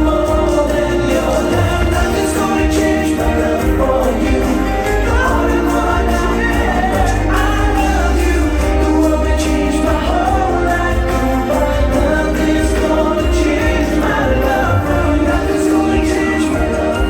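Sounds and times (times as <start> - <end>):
choir-like song over loudspeakers: 0.0 - 17.0.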